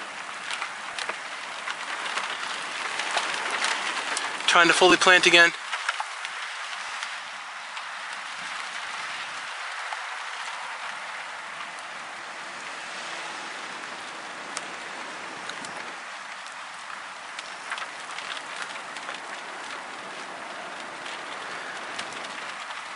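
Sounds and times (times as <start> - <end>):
heavy rain hiss: 0.0 - 22.9.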